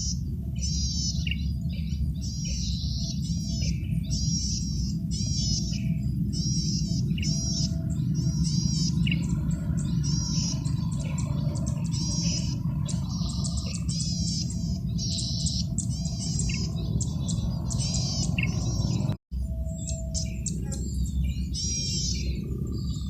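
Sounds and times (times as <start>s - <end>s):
bird singing trilled phrases: 0.0s - 23.0s
steady low hum: 0.0s - 23.0s.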